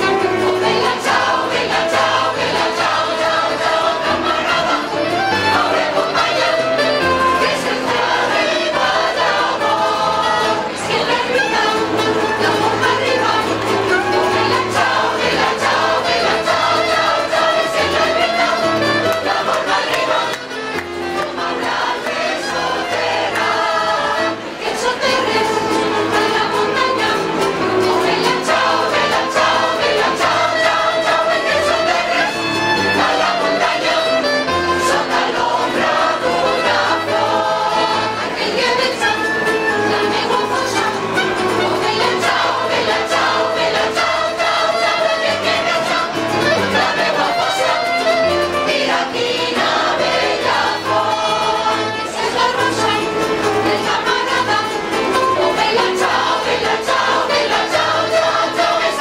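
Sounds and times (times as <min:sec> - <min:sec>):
instrumental accompaniment with bass: 0:00.0 - 0:59.0
mixed choir singing: 0:00.0 - 0:59.0.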